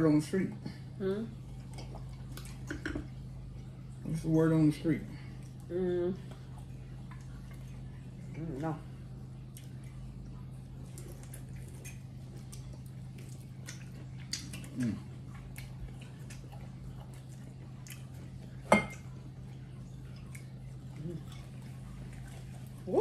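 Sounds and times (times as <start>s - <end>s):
steady low hum: 0.0s - 23.0s
soft chewing: 0.6s - 4.2s, 5.0s - 23.0s.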